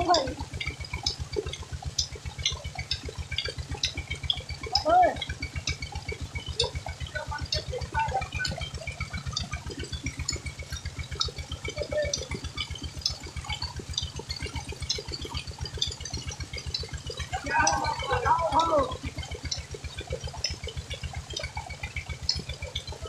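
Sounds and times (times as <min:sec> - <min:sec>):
low rhythmic pulsing: 0:00.0 - 0:23.0.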